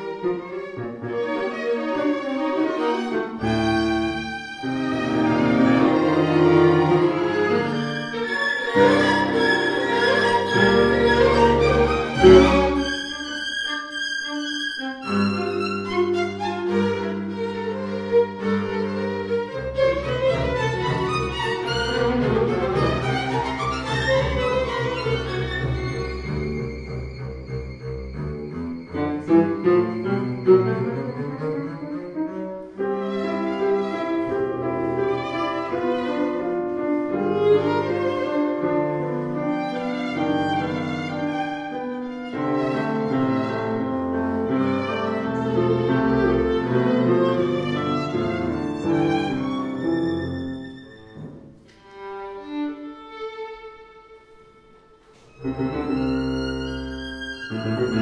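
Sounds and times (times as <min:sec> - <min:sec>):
string orchestra playing: 0:00.0 - 0:58.0.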